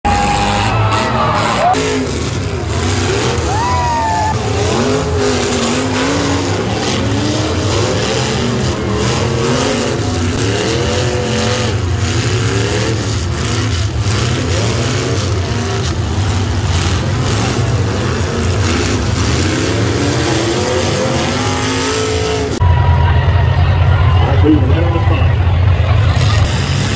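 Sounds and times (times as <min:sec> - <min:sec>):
car engines revving: 0:00.0 - 0:26.9.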